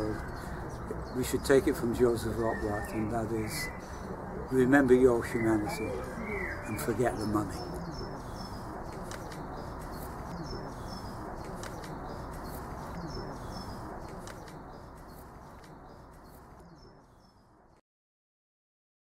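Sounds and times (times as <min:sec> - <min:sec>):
birds chirping and cooing: 0:00.0 - 0:17.4.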